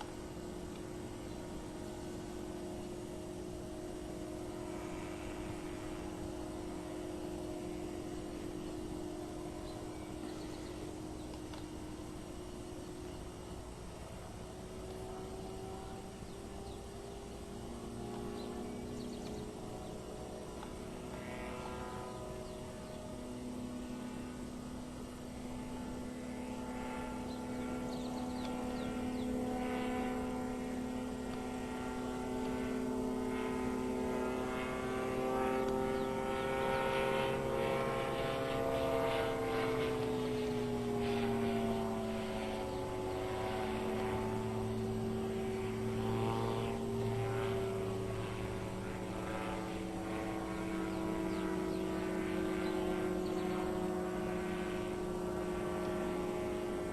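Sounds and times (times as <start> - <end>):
light aircraft engine droning: 0.0 - 56.9.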